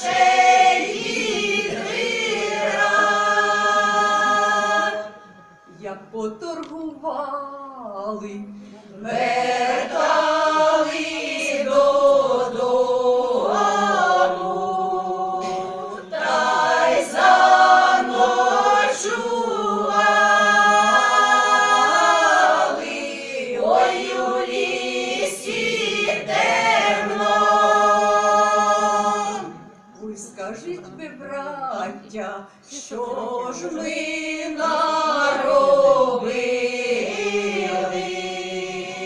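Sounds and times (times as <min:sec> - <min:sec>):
women singing folk song together: 0:00.0 - 0:05.2, 0:09.0 - 0:39.0.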